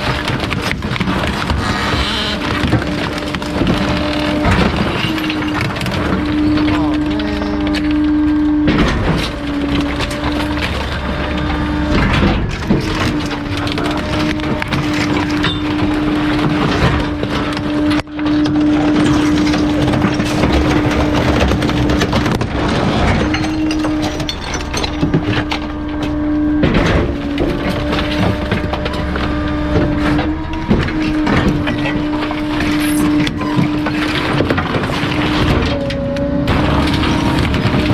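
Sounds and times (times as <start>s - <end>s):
garbage compactor crushing load: 0.0s - 37.9s
hydraulic hum: 0.0s - 37.9s.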